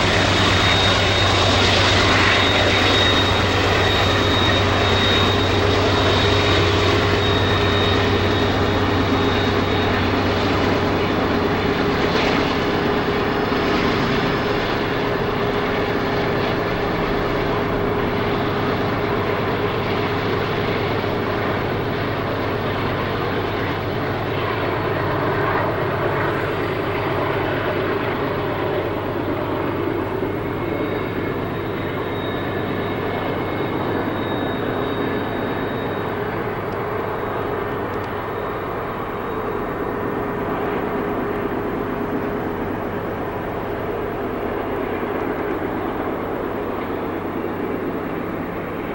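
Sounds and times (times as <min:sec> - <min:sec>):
diesel locomotive engine drone: 0:00.0 - 0:48.9.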